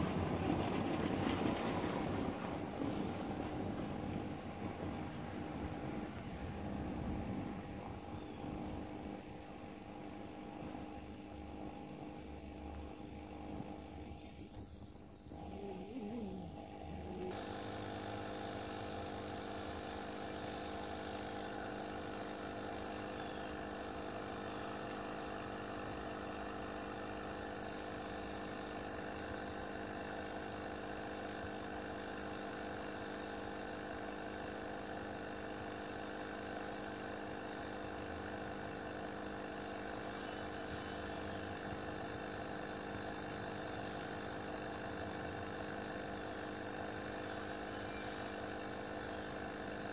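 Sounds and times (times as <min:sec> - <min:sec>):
motor hum: 0:00.0 - 0:49.9.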